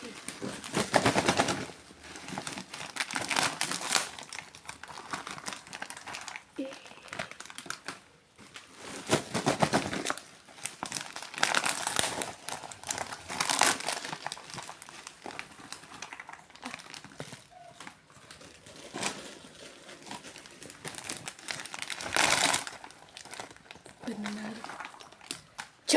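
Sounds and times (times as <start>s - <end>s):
plastic wrappers crinkling: 0.0s - 25.9s.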